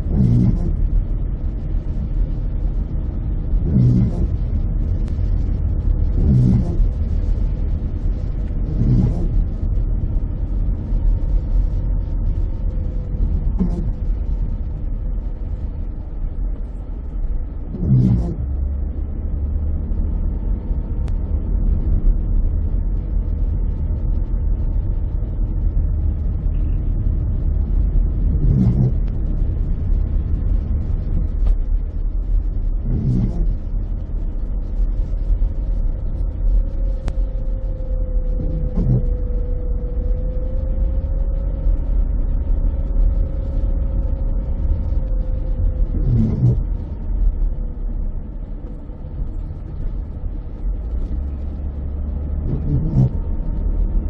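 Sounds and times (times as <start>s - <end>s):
tyres and engine rumble: 0.0s - 54.0s.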